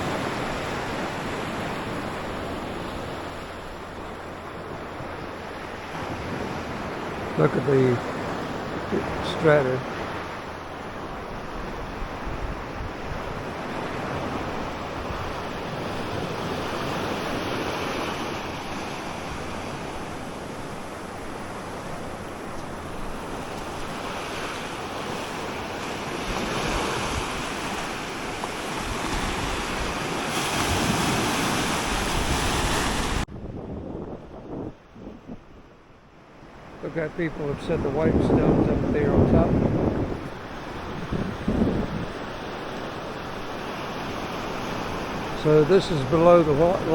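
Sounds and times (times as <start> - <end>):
wind on microphone: 0.0 - 43.6
ocean surf on beach: 0.0 - 46.9.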